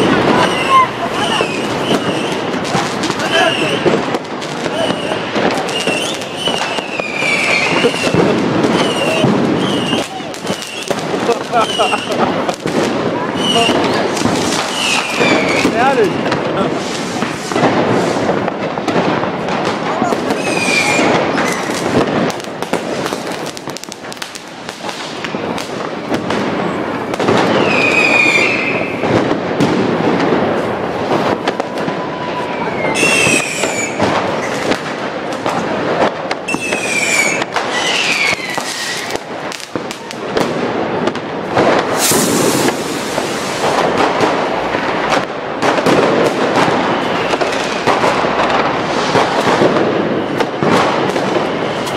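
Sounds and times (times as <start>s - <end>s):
fireworks crackling and bursting: 0.0s - 51.9s
loud firework blast: 0.0s - 51.9s
whistling fireworks: 0.0s - 51.9s.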